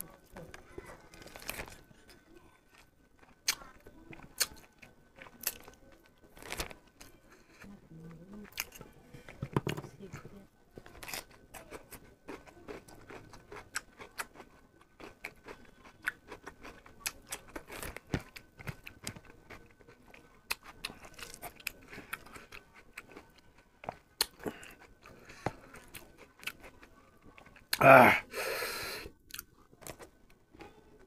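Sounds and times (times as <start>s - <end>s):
person chewing food: 0.1s - 7.8s, 8.4s - 9.4s, 10.8s - 30.8s.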